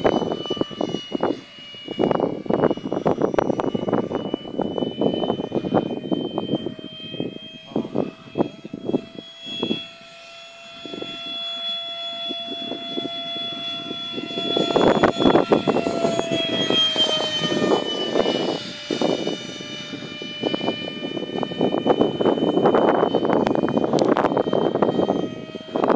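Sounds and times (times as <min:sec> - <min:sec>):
electric jet fan whining: 0:00.0 - 0:25.9
wind buffeting microphone: 0:00.0 - 0:25.9.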